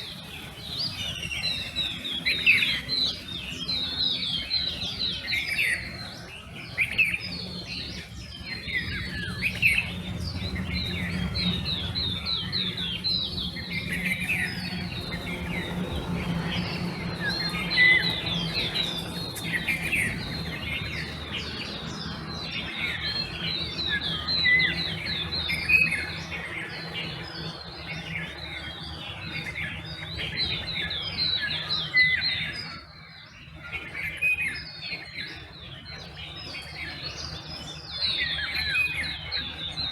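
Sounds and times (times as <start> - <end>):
songbirds chirping: 0.0 - 39.9
whistled bird notes: 0.0 - 39.9.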